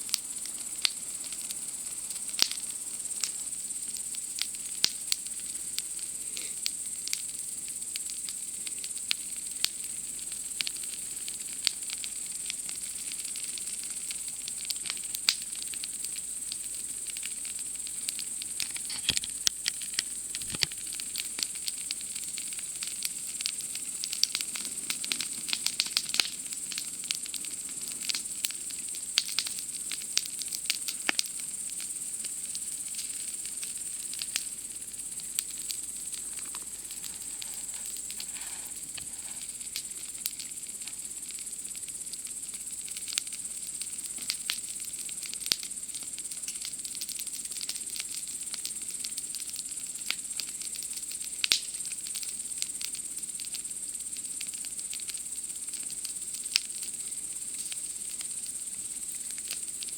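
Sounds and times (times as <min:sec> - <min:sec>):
campfire crackling and popping: 0:00.0 - 0:59.9
night insects chirring: 0:00.0 - 0:59.9.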